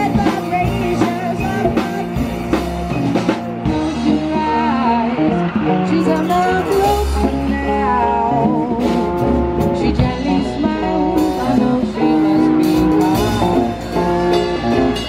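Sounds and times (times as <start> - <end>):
live band playing soft rock: 0.0 - 15.0.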